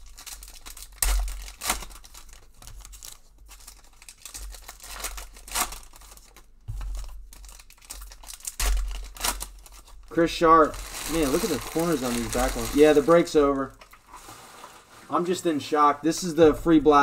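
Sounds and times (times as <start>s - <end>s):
foil wrappers tearing: 0.0s - 15.1s
foil crinkling and rustling: 0.0s - 15.4s.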